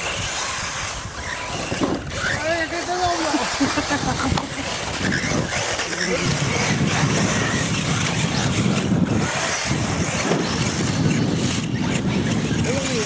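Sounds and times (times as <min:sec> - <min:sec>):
remote control cars running: 0:00.0 - 0:13.0
wind buffeting microphone: 0:00.0 - 0:13.0.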